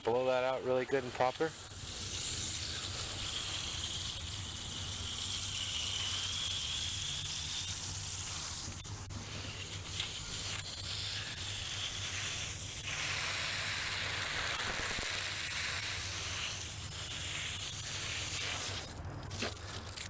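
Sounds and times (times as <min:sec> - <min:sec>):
hose water spraying on plastic: 0:00.0 - 0:20.0.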